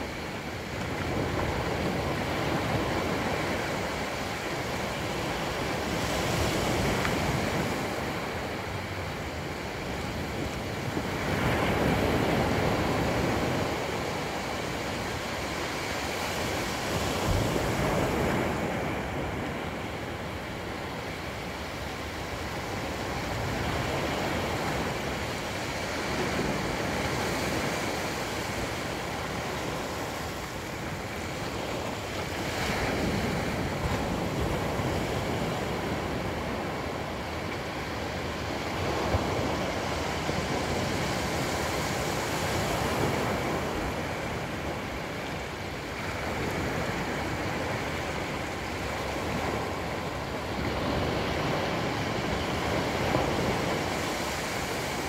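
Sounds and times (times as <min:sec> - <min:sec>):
small waves on sandy beach: 0:00.0 - 0:55.0.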